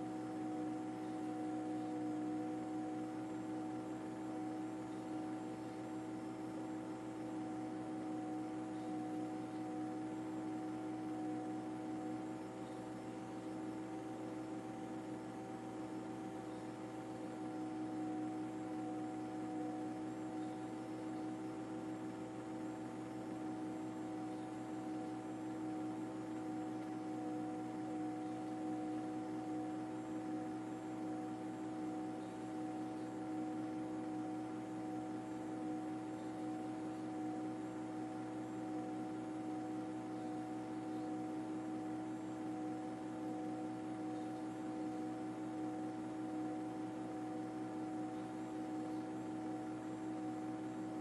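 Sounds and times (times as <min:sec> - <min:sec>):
steady machine hum: 0:00.0 - 0:51.0.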